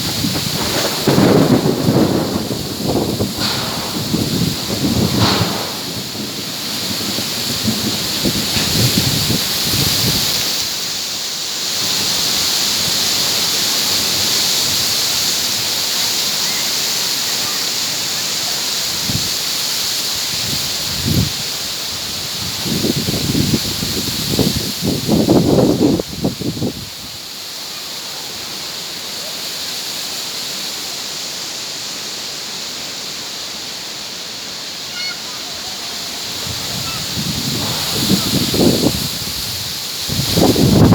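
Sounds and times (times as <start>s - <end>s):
wind rustling palm fronds: 0.0s - 40.9s.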